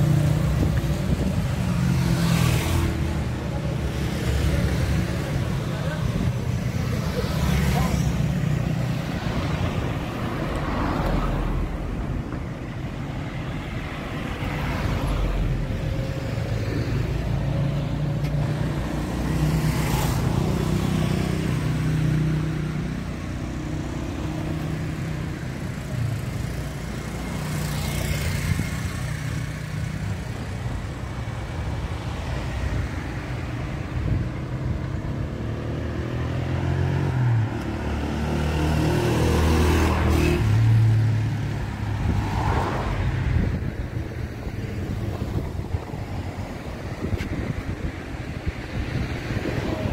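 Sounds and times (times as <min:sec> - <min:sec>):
vehicles passing close: 0:00.0 - 0:49.9.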